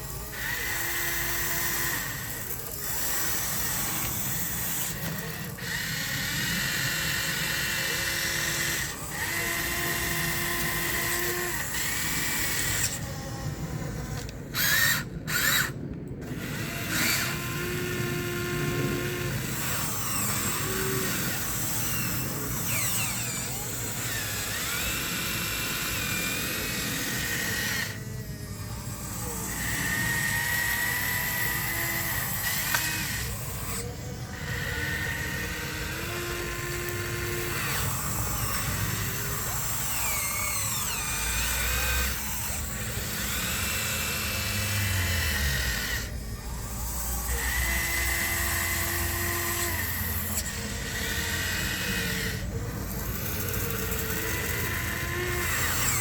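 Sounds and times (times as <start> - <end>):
electric motors whining: 0.0 - 56.0.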